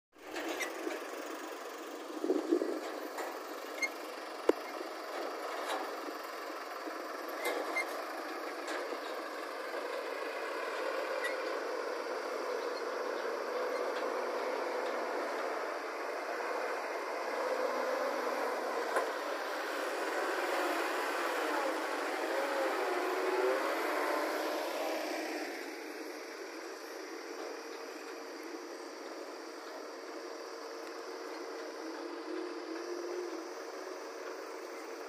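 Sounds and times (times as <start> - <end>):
diesel engines running: 0.2 - 35.0.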